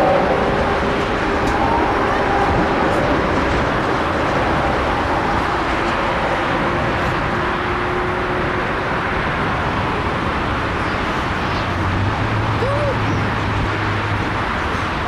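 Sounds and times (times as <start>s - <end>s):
loud jet engine noise: 0.0s - 15.0s.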